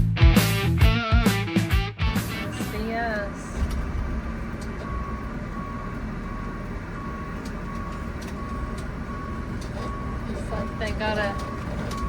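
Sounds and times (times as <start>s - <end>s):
motorhome engine rumble: 0.0s - 12.0s.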